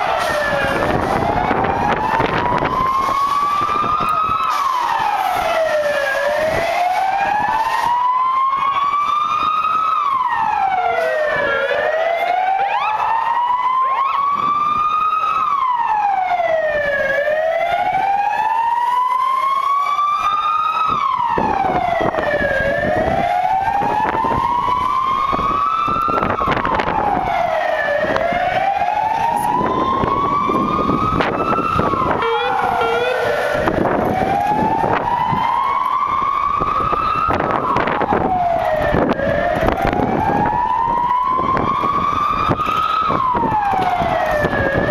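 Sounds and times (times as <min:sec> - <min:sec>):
engine and road rumble: 0:00.0 - 0:44.9
second siren: 0:00.0 - 0:44.9
siren wailing: 0:00.0 - 0:44.9.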